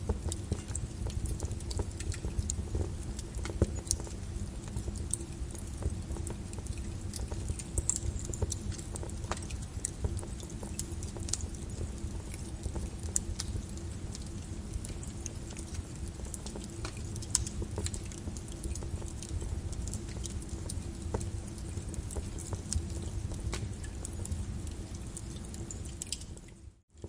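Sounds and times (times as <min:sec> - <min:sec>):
lava crackling and popping: 0:00.0 - 0:27.0.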